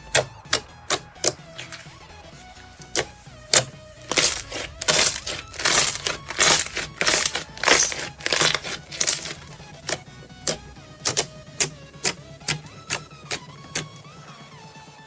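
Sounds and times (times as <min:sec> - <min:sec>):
sharp clicks: 0:00.0 - 0:14.1
material crackling as crushed: 0:00.8 - 0:13.8.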